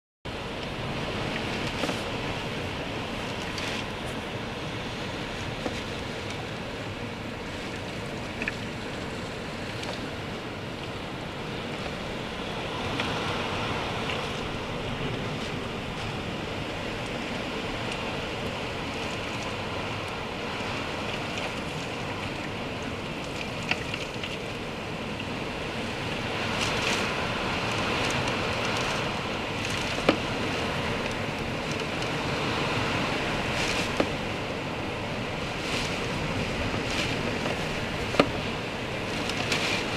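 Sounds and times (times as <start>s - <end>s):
wind and rain roaring: 0.3s - 39.9s.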